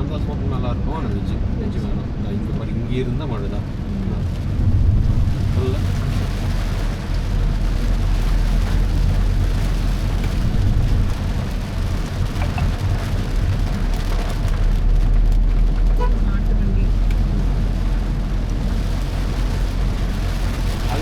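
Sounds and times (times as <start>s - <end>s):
rain pattering on a car: 0.0s - 21.0s
tyre and engine rumble: 0.0s - 21.0s.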